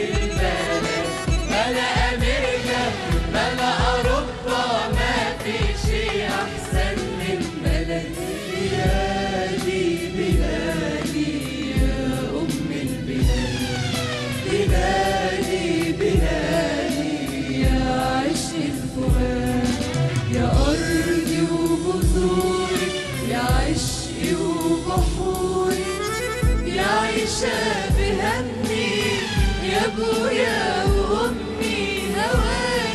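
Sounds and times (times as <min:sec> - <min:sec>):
keyboards: 0:00.0 - 0:32.9
mixed choir singing: 0:00.0 - 0:32.9.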